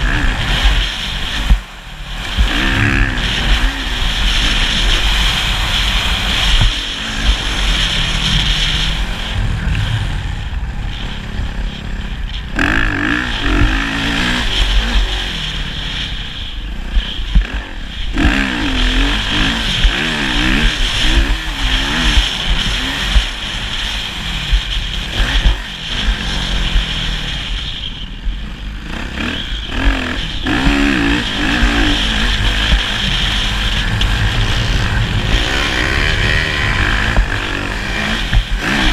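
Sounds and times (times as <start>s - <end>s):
motocross bike engine revving: 0.0s - 38.9s
wind rumble: 0.0s - 38.9s.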